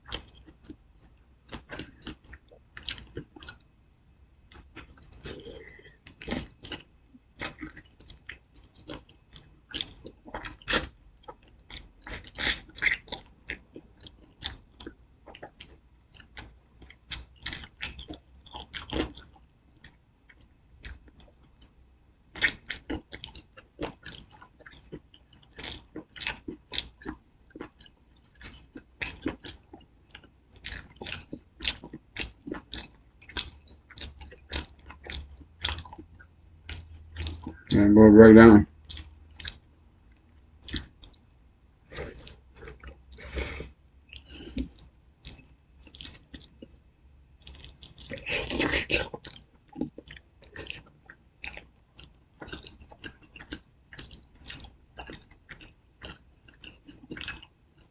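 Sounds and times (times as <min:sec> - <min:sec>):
chewing crunchy fried chicken: 0:00.0 - 0:03.7, 0:04.5 - 0:57.9.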